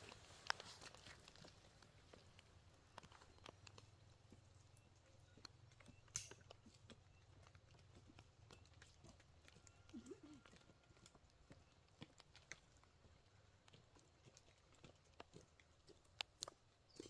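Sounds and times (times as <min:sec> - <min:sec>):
faint clicks and taps: 0:00.0 - 0:17.0.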